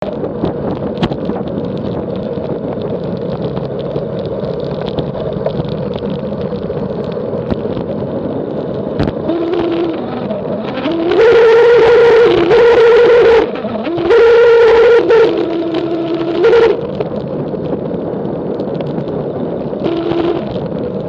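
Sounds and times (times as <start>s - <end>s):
faint steady hum: 0.0s - 21.0s
wind and road rumble: 0.0s - 21.0s.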